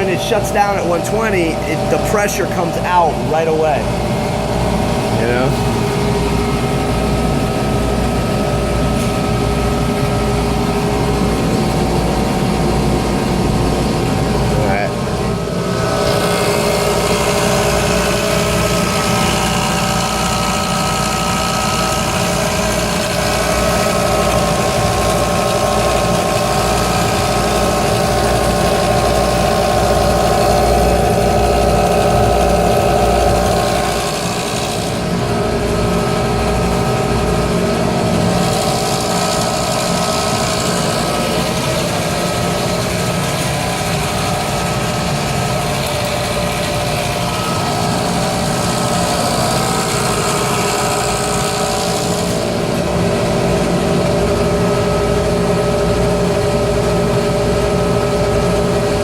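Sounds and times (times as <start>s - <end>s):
air compressor running: 0.0s - 59.0s.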